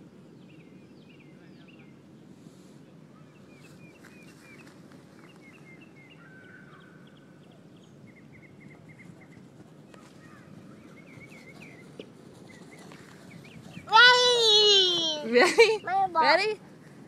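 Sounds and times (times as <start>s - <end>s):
low outdoor background noise: 0.0s - 17.0s
wild birds chirping: 0.0s - 17.0s.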